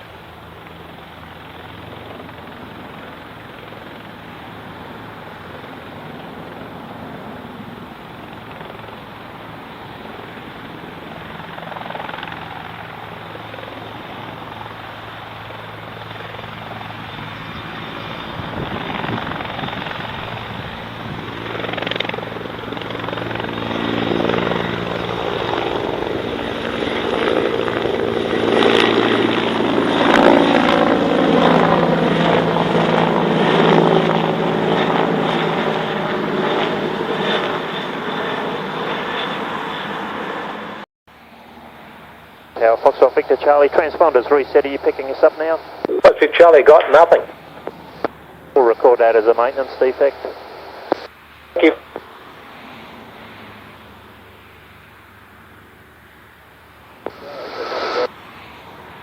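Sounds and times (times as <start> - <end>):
light aircraft engine drone: 0.0 - 59.0.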